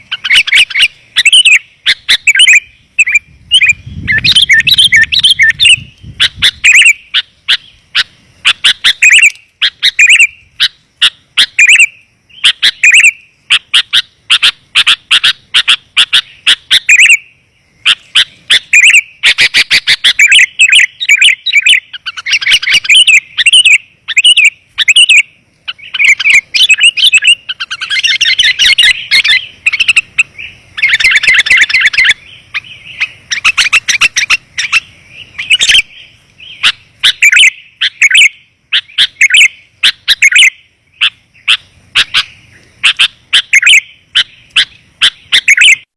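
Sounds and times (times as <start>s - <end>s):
bird chirping rapidly: 0.0s - 45.9s.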